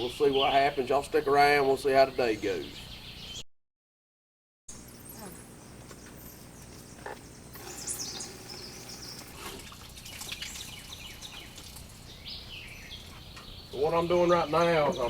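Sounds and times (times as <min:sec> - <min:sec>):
birds chirping and singing: 0:00.0 - 0:03.4, 0:04.8 - 0:15.0.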